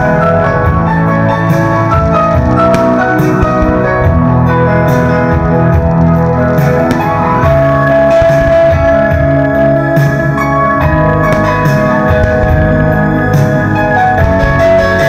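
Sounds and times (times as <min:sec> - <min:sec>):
music with sustained chords: 0:00.0 - 0:15.0.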